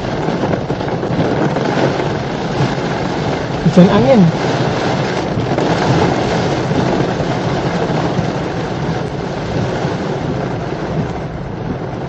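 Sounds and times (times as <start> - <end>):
heavy rain on car body: 0.0 - 12.0.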